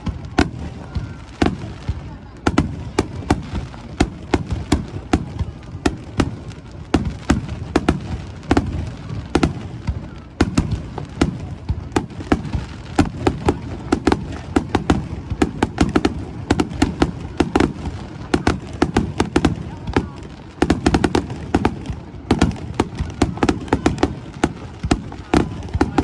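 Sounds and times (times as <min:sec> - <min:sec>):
fireworks bangs and cracks: 0:00.0 - 0:26.0.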